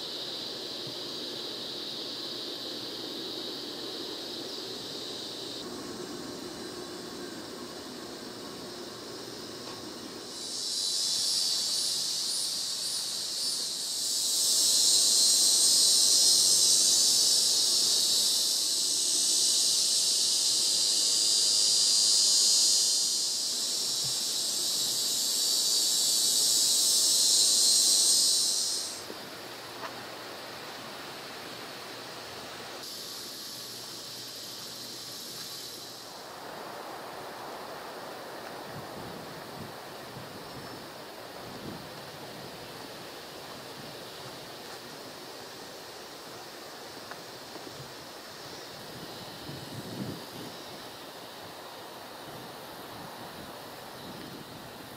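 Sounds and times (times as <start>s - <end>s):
cicadas buzzing: 0.0s - 54.9s.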